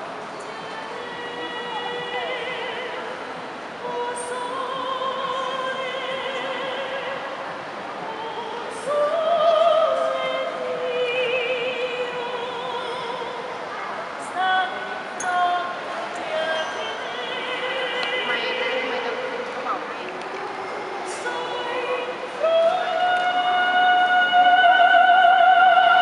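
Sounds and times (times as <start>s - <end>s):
woman singing operatically: 0.5s - 7.4s, 8.0s - 13.6s, 14.2s - 19.6s, 20.4s - 26.0s.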